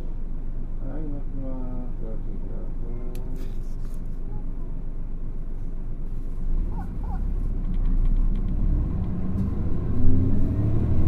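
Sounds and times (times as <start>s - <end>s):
bus diesel engine accelerating: 0.0s - 11.0s.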